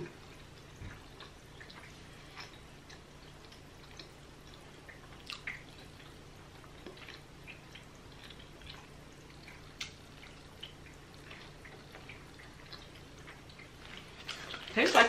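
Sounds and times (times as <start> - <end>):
wet chewing mouth sounds: 0.0 - 14.8
low steady hum: 0.0 - 15.0.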